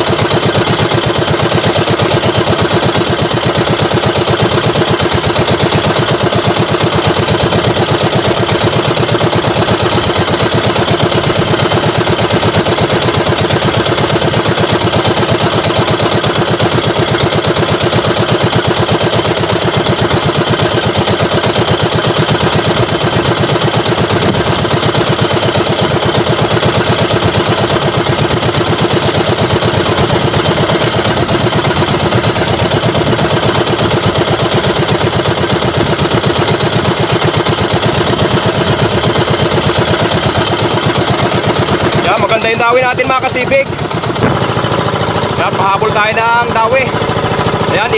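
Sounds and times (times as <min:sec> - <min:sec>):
small boat engine running: 0:00.0 - 0:47.9.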